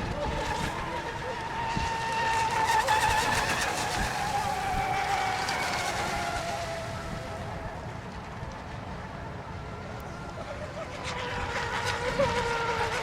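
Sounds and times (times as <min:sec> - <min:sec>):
radio-controlled boat motors whining: 0:00.0 - 0:08.4, 0:09.2 - 0:13.0.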